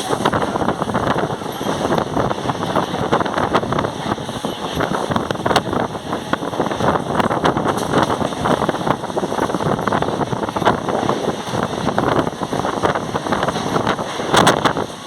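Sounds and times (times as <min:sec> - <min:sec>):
train wheels rumbling on track: 0:00.0 - 0:15.0
wind noise on microphone: 0:00.0 - 0:15.0.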